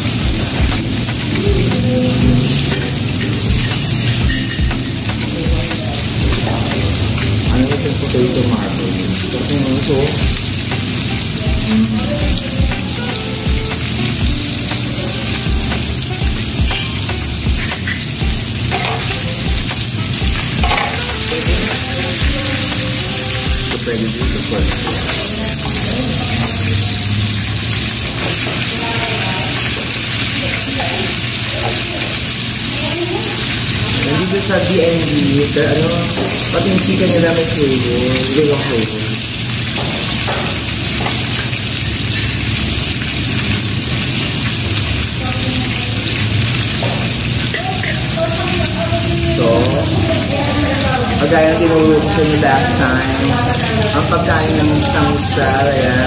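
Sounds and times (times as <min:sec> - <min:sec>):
meat sizzling on a grill pan: 0:00.0 - 0:56.0.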